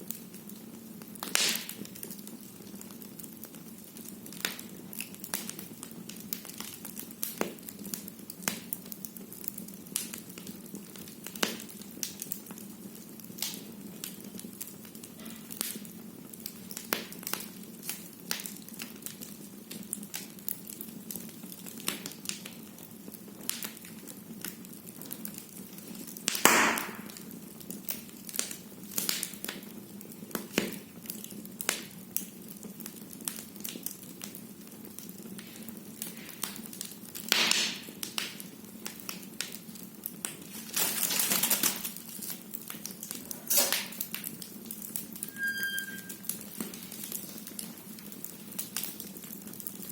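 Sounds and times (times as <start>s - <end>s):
firewood crackling and popping: 0.0s - 49.9s.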